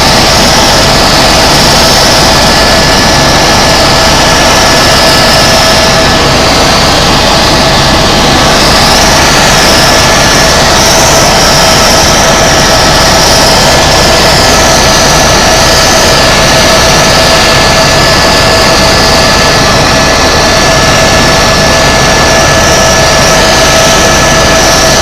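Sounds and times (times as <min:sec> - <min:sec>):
helicopter turbine and rotor noise: 0:00.0 - 0:25.0.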